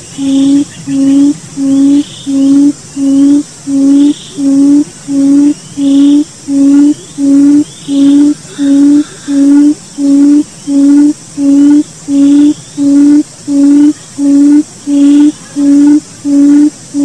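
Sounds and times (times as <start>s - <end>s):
bird low steady hoot: 0.0s - 17.0s
faint high chirps: 0.0s - 17.0s
faint high hiss: 0.0s - 17.0s.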